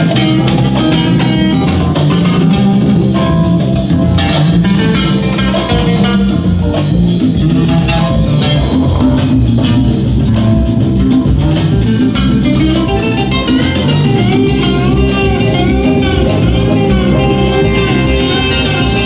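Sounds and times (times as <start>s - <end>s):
guitar-led music with bass: 0.0s - 19.0s.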